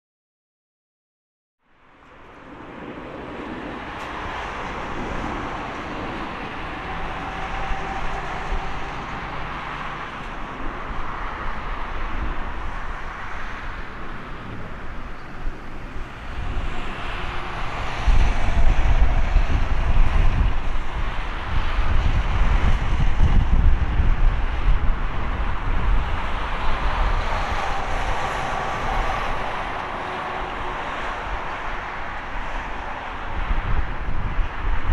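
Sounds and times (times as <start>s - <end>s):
jet whine and rush: 1.9s - 34.9s
heavy low rumble: 2.1s - 31.5s.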